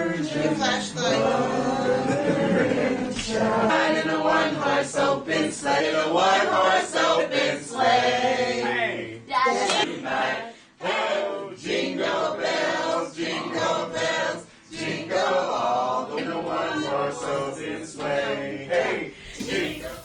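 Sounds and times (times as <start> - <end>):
choir singing unaccompanied: 0.0 - 20.0.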